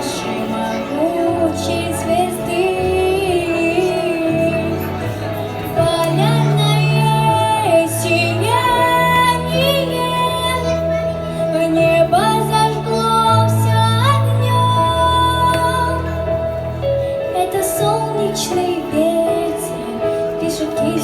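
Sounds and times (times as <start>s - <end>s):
backing track with bass notes: 0.0s - 21.0s
girl singing with vibrato: 0.0s - 21.0s.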